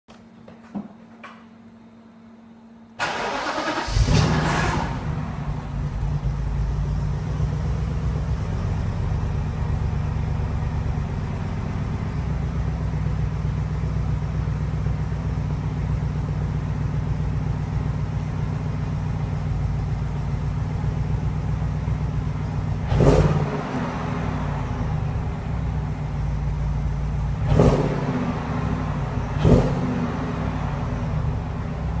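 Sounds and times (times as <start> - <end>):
car engine idling and revving: 3.0 - 32.0.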